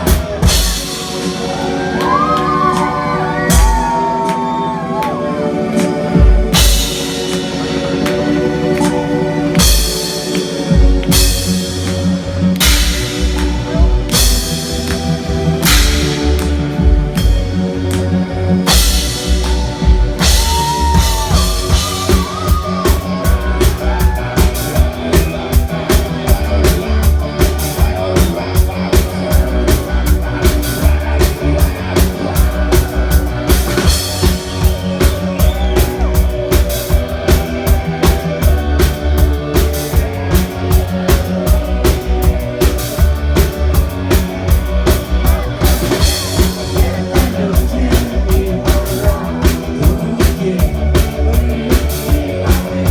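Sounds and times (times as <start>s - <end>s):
drum kit beat: 0.0s - 5.2s, 5.8s - 52.9s
bass: 0.0s - 52.9s
guitar: 0.0s - 52.9s.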